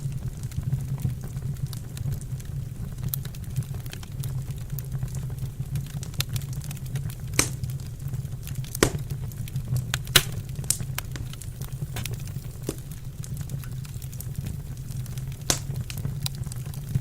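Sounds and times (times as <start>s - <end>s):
wood fire crackling: 0.0s - 17.0s
fire pops: 3.0s - 17.0s.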